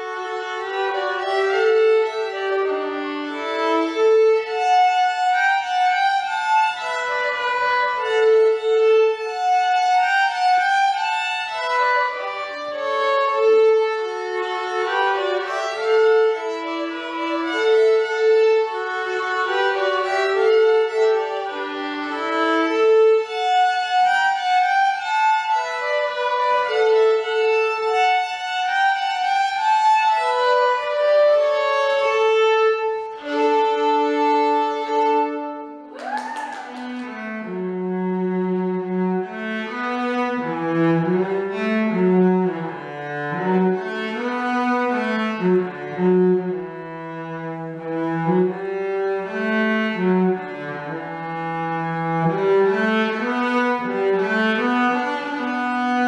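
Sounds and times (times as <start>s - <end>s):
two violins playing a duet: 0.0s - 56.0s.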